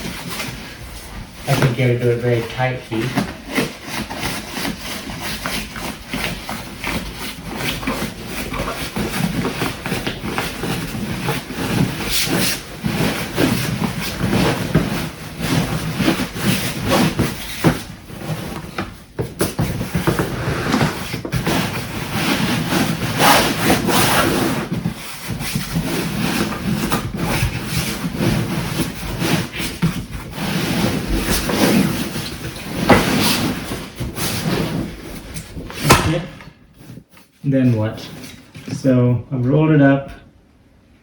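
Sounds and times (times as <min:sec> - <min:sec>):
foam sleeping pad being rolled up: 0:00.0 - 0:38.8
fabric rubbing and scraping: 0:00.0 - 0:39.0.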